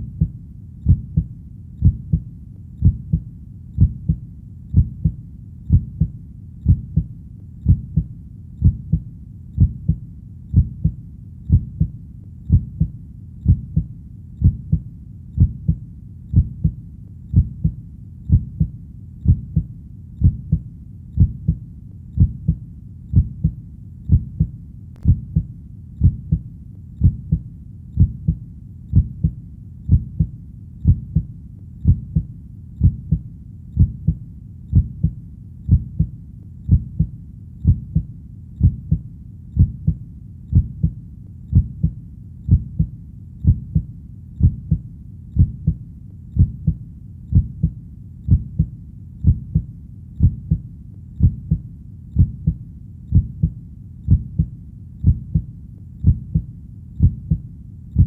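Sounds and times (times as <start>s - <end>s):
heartbeat double thump: 0.0s - 2.2s, 2.8s - 3.2s, 3.8s - 9.0s, 9.6s - 11.9s, 12.5s - 14.8s, 15.4s - 20.6s, 21.2s - 21.6s, 22.2s - 26.4s, 27.0s - 27.4s, 28.0s - 33.2s, 33.8s - 36.1s, 36.7s - 39.0s, 39.6s - 44.8s, 45.4s - 45.8s, 46.4s - 50.6s, 51.2s - 51.6s, 52.2s - 57.4s.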